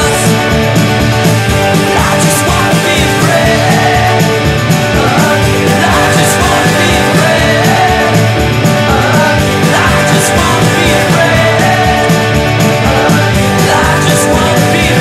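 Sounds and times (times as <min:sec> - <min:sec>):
person singing: 0:00.0 - 0:00.7, 0:01.6 - 0:15.0
bass guitar: 0:00.0 - 0:15.0
drums keeping steady beat: 0:00.0 - 0:15.0
electric guitars: 0:00.0 - 0:15.0.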